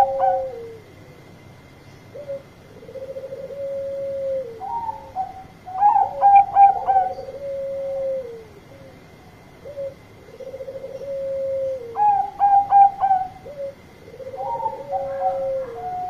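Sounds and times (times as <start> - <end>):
dove cooing: 0.0 - 1.3, 2.1 - 16.0.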